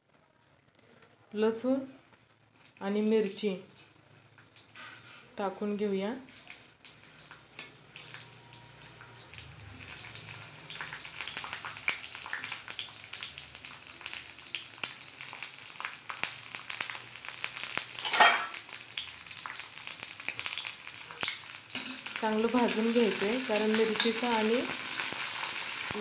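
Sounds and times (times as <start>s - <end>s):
chillies sizzling in hot oil: 2.6s - 26.0s.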